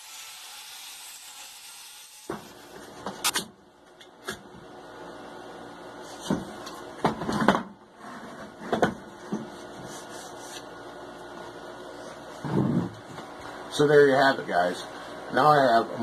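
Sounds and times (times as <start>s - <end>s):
steady low hum: 2.3s - 16.0s.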